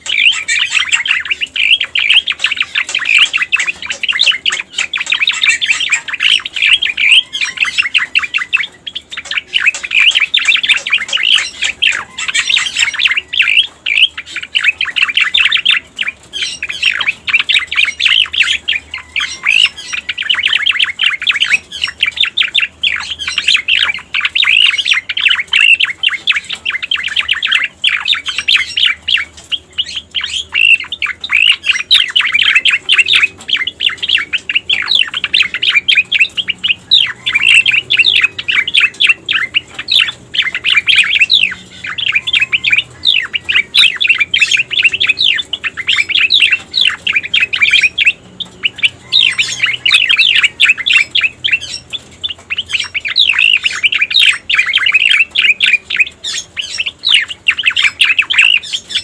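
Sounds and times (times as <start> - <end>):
bird singing rapid high chirps: 0.0 - 59.0.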